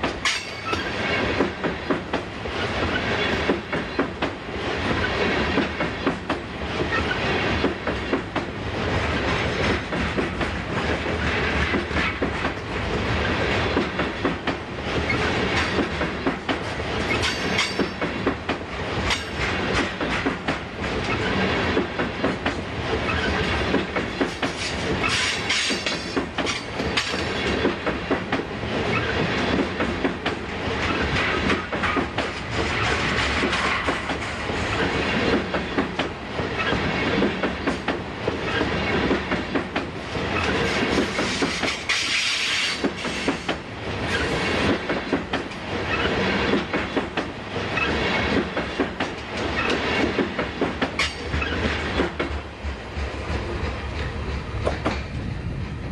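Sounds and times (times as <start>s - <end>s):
freight train wheels clattering: 0.0s - 55.9s.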